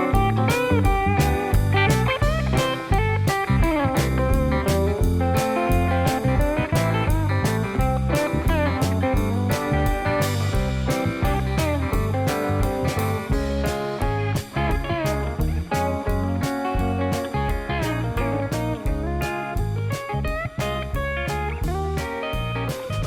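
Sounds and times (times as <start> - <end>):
blues guitar over a steady beat: 0.0 - 23.0.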